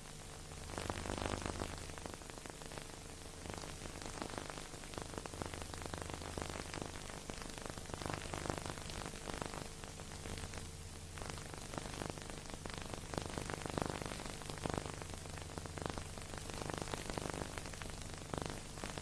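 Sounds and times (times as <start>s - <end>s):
dense crackle: 0.0s - 19.0s
steady hiss: 0.0s - 19.0s.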